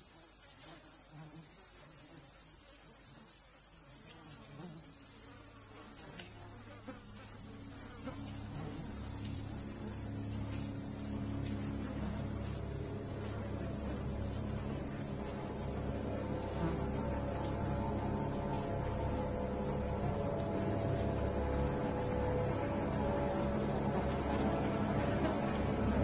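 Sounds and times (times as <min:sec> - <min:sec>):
flies buzzing: 0:00.0 - 0:26.0.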